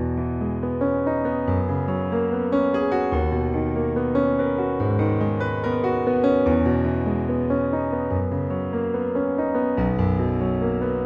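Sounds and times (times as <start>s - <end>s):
gentle piano chords: 0.0s - 11.0s.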